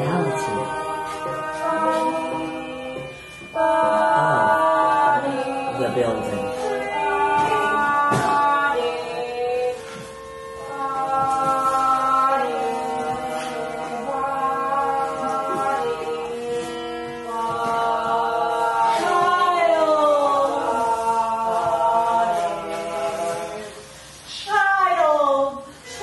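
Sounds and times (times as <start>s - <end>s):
voices chanting long notes: 0.0s - 24.0s.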